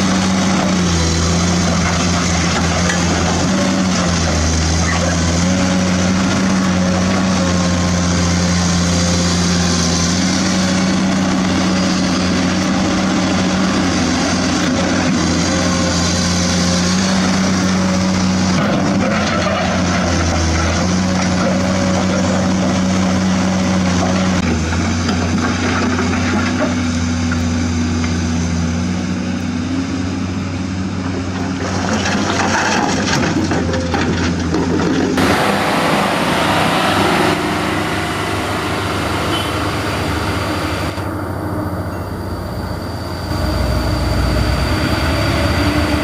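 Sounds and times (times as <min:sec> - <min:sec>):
excavator motor running: 0:00.0 - 0:46.0.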